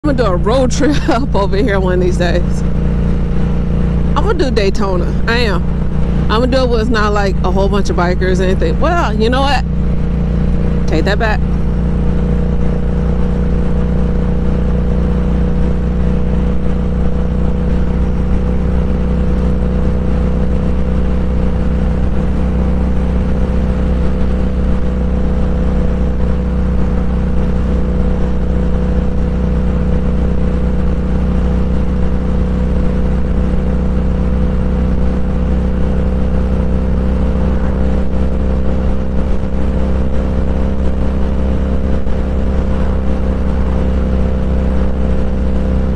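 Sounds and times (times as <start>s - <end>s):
motorcycle engine cruising: 0.0s - 45.9s
wind and road noise: 0.0s - 45.9s.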